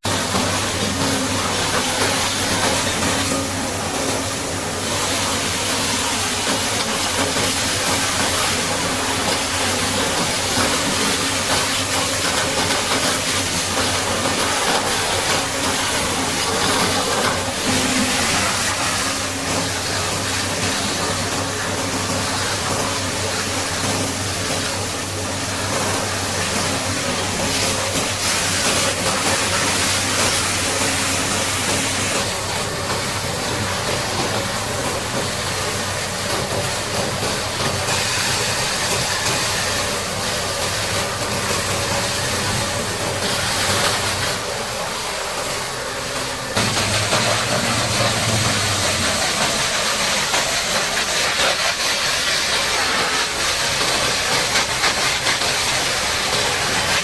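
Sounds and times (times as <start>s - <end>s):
high-pressure water jet spraying: 0.1s - 57.0s.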